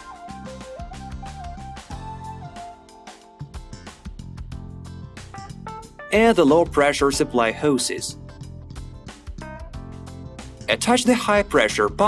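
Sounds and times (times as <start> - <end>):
plucked guitar music with beat: 0.0 - 10.8.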